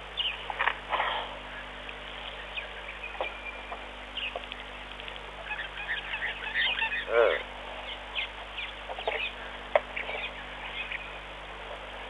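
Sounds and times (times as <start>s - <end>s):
birds chirping and clicking: 0.0s - 12.0s
low electrical hum: 0.0s - 12.0s.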